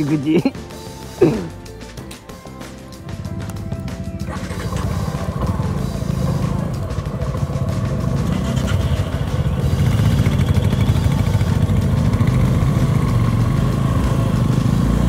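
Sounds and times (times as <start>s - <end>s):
motorcycle engine rumble: 0.0s - 15.0s.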